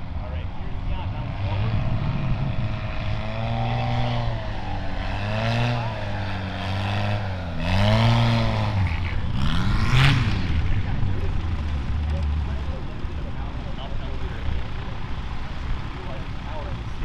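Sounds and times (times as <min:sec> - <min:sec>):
propeller aircraft engine: 0:00.0 - 0:17.0.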